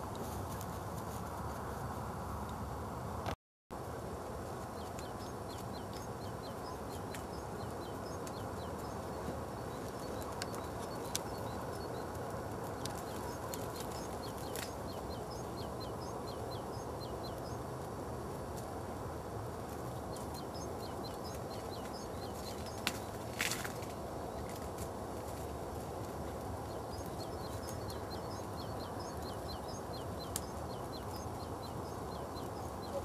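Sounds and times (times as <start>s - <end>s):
outdoor background rush: 0.0s - 33.0s
small birds chirping: 3.8s - 33.0s.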